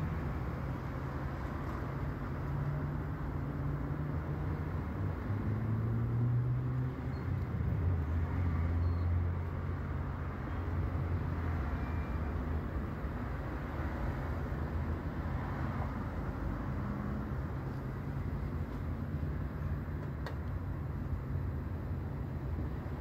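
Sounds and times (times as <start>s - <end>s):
traffic-like background noise: 0.0s - 23.0s.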